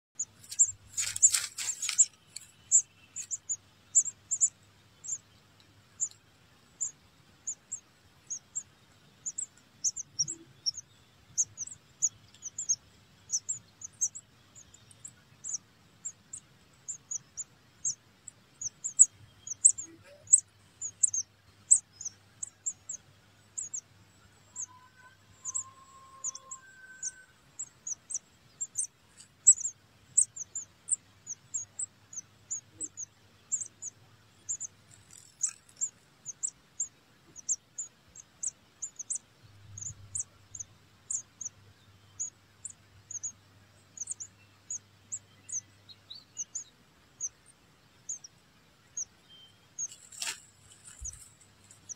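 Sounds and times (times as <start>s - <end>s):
nestling birds peeping: 0.2s - 51.9s.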